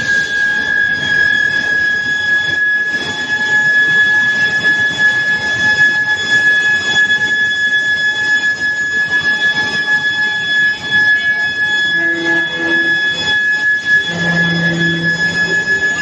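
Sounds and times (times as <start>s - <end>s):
furnace high-pitched whine: 0.0s - 16.0s.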